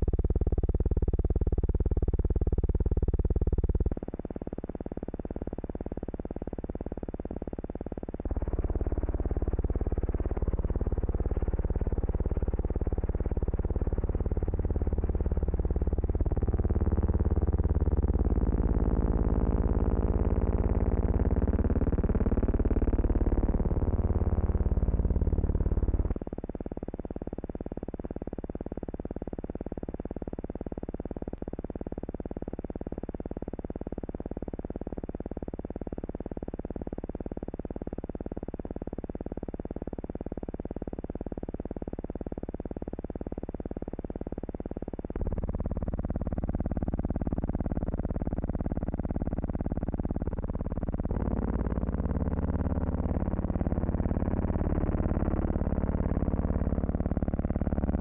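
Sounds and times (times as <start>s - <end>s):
droning hum with hiss: 0.0s - 58.0s.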